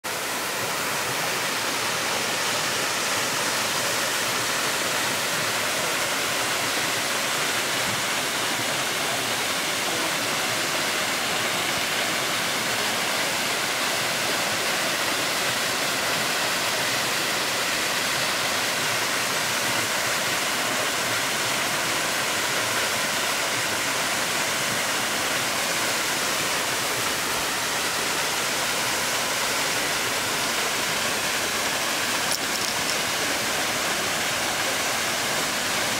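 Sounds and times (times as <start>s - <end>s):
waterfall splashing into pool: 0.1s - 35.9s.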